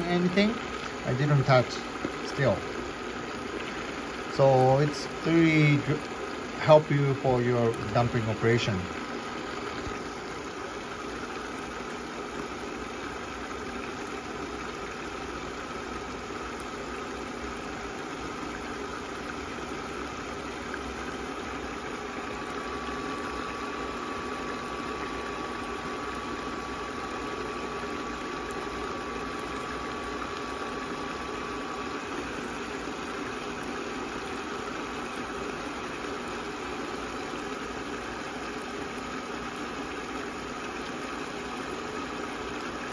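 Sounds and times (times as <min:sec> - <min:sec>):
steady hum: 0:00.0 - 0:42.9
water boiling and sizzling: 0:00.0 - 0:42.9.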